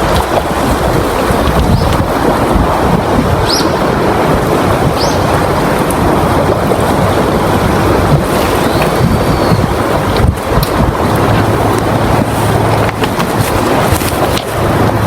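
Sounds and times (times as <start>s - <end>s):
heavy sea waves: 0.0s - 15.0s
wind buffeting microphone: 0.0s - 15.0s.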